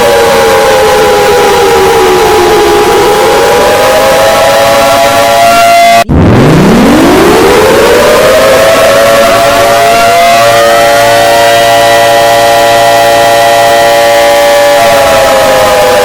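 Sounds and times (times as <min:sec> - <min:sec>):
siren tones winding: 0:00.0 - 0:16.0.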